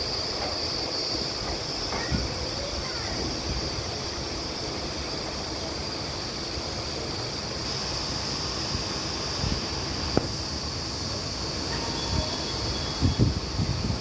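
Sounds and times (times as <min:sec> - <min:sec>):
constant high hiss: 0:00.0 - 0:14.0
train rumbling and rushing: 0:00.0 - 0:14.0.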